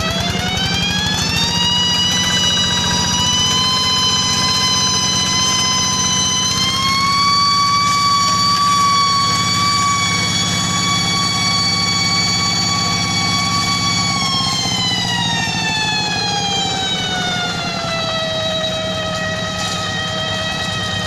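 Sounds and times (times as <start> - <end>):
high-pitched whine: 0.0 - 21.0
tractor engine rumbling: 0.0 - 21.0.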